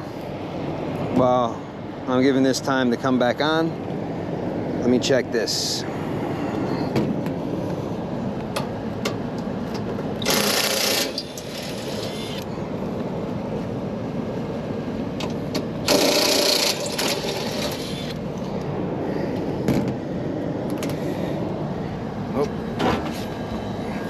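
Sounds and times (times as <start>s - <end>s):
air conditioning unit running: 0.0s - 24.0s.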